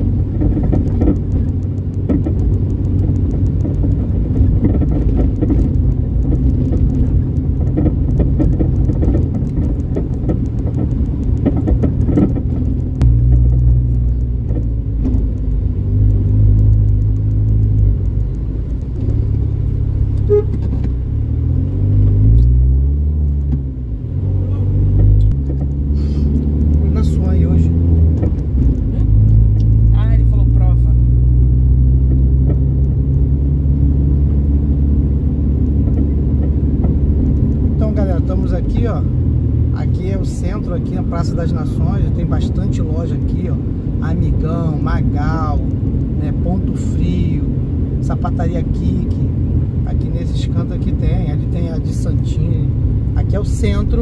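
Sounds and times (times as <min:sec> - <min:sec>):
car engine inside cabin: 0:00.0 - 0:54.0
road rumble: 0:00.0 - 0:54.0.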